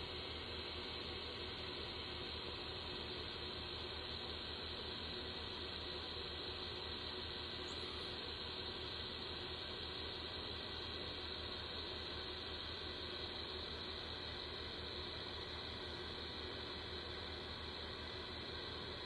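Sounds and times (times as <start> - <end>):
thin steady tone: 0.0 - 19.0.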